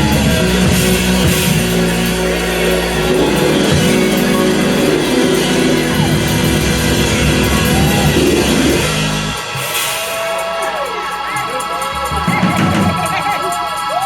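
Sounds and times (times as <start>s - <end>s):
band playing guitar bass drums: 0.0s - 14.0s.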